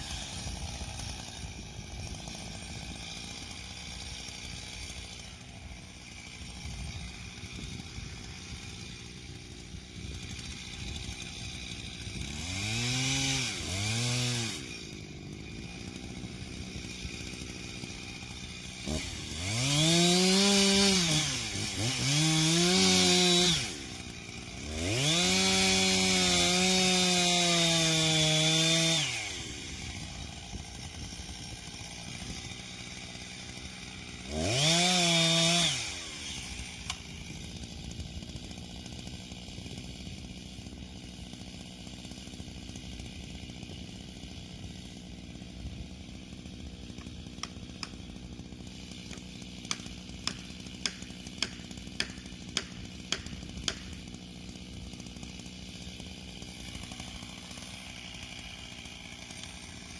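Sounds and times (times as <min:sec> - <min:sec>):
chainsaw cutting wood: 0:00.0 - 0:59.9
chainsaw engine revving: 0:00.0 - 0:59.9.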